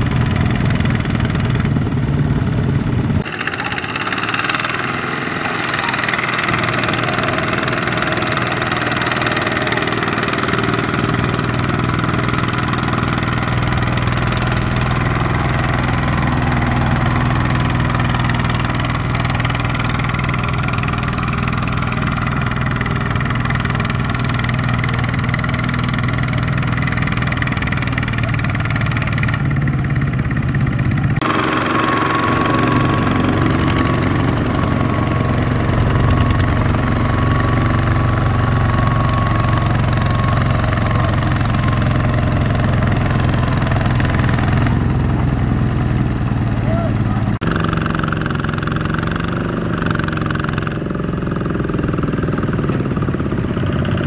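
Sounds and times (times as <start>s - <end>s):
diesel tractor engine under load: 0.0s - 54.0s.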